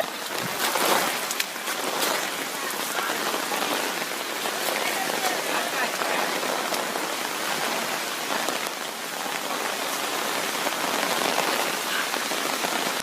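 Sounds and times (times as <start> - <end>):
rain on the ground: 0.0 - 13.0.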